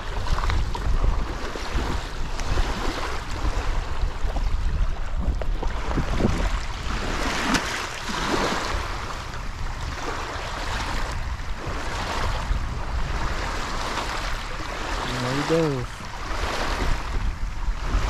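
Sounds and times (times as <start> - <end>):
lake waves against bank: 0.0 - 18.0
wind rumbling on microphone: 0.0 - 18.0.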